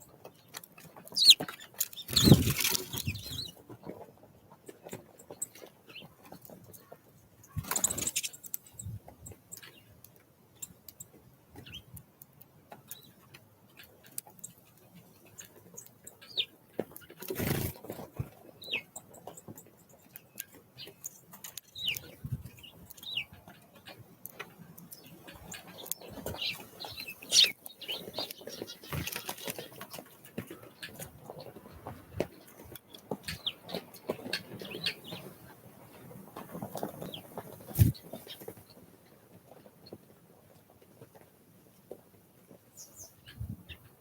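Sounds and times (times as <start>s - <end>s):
small birds chirping: 0.0s - 4.0s, 4.8s - 12.1s, 12.7s - 40.1s, 42.6s - 44.0s.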